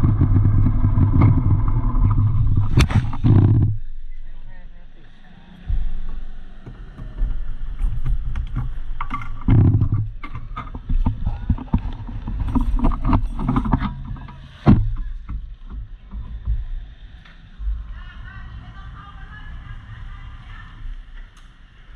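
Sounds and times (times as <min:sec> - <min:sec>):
low rumble: 0:00.0 - 0:21.9.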